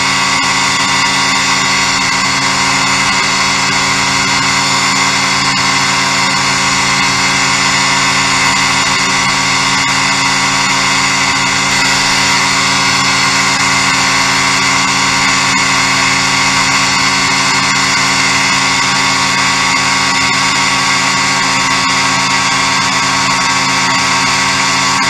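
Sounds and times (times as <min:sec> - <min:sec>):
ultralight aircraft engine droning: 0:00.0 - 0:25.0.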